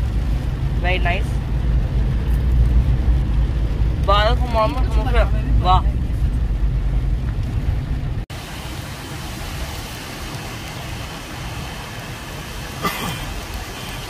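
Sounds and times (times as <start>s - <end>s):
low rumble: 0.0s - 12.2s
rain and road noise hiss: 0.0s - 14.0s.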